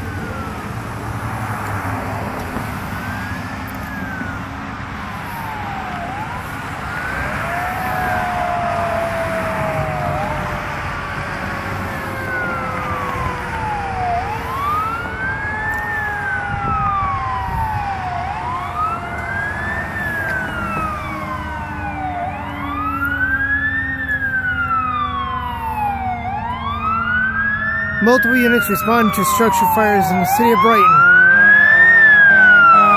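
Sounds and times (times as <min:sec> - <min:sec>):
fire engine siren wailing: 0:00.0 - 0:32.9
lower siren tone: 0:00.0 - 0:32.9
road traffic: 0:00.0 - 0:32.9.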